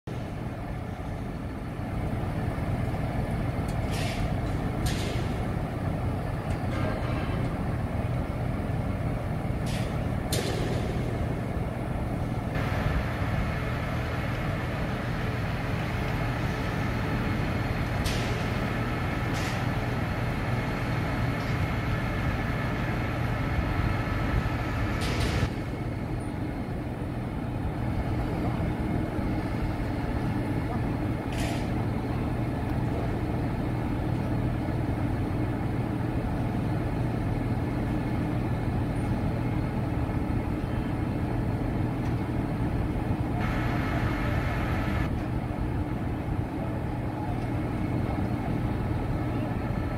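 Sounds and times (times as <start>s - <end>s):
crane diesel engine running: 0.1s - 49.9s.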